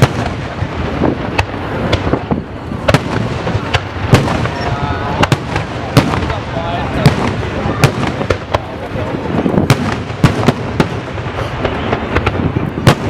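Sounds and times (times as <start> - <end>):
fireworks crackling: 0.0 - 13.0
fireworks sharp bangs: 0.0 - 13.0.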